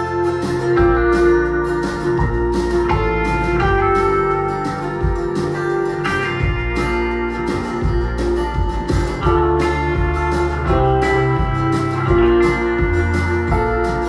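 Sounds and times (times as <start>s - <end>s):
folk music with plucked guitar: 0.0s - 14.0s.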